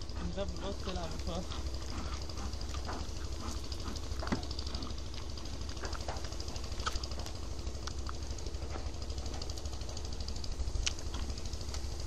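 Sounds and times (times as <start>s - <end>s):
bee smoker puffs: 0.0s - 12.0s
steady low drone: 0.0s - 12.0s.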